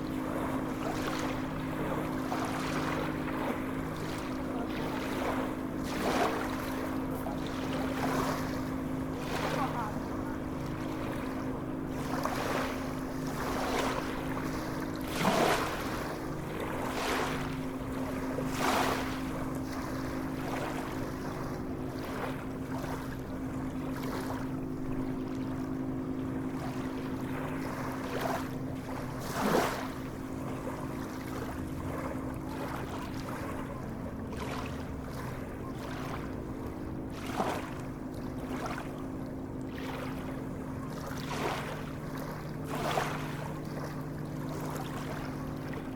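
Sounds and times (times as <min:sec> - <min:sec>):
sea waves washing and splashing: 0:00.0 - 0:45.9
steady low hum: 0:00.0 - 0:45.9.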